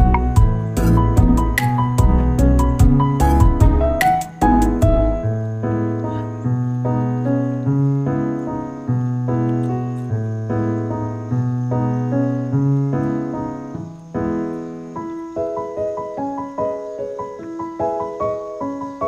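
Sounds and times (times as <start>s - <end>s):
gentle keyboard music: 0.0s - 19.0s.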